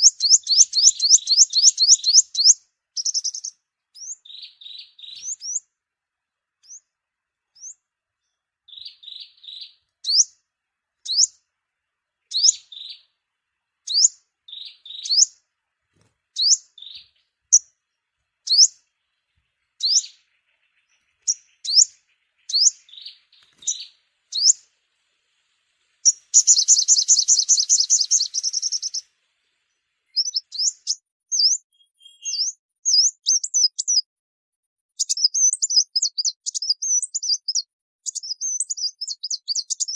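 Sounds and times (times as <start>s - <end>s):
bird chirps and trills: 0.0s - 5.8s, 6.6s - 10.4s, 11.0s - 11.5s, 12.1s - 13.2s, 13.8s - 15.5s, 16.3s - 34.1s, 35.0s - 39.9s.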